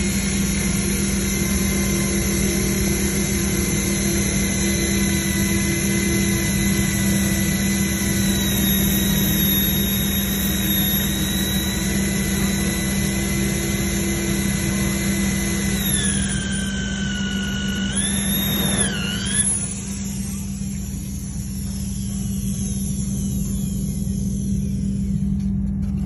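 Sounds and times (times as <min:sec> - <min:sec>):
electric drill motor whine: 0:00.0 - 0:26.0
low hum: 0:00.0 - 0:26.0.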